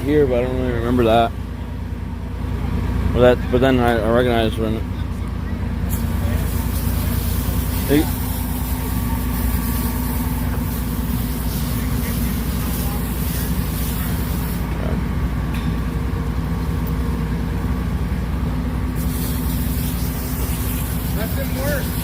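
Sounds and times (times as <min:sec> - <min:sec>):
large vehicle engine running: 0:00.0 - 0:22.0.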